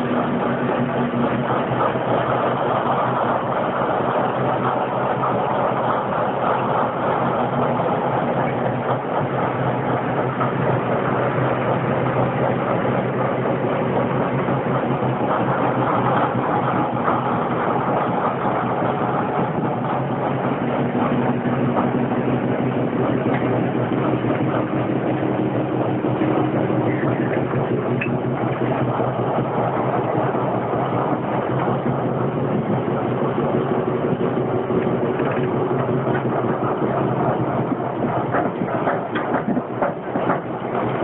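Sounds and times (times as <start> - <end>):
diesel locomotive engine running: 0.0 - 41.0.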